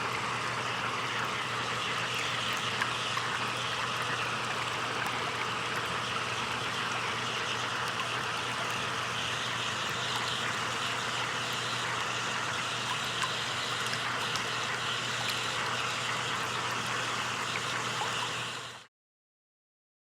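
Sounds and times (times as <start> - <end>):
hot tub water bubbling: 0.0 - 18.9.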